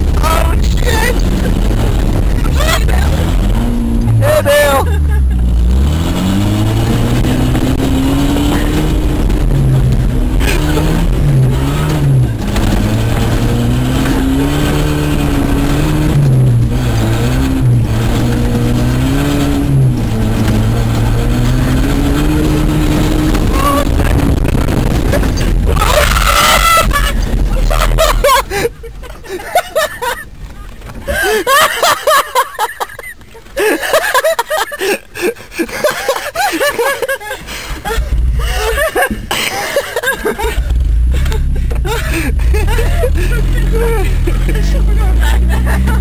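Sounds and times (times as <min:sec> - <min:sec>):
truck engine revving: 0:00.0 - 0:35.2, 0:35.8 - 0:46.0
wind and tyres rumbling: 0:00.0 - 0:46.0.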